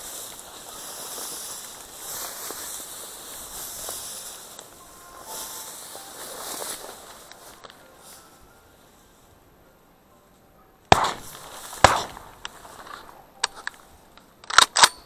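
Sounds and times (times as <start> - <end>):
dry brush rustling against clothing: 0.0 - 9.4, 10.9 - 14.2.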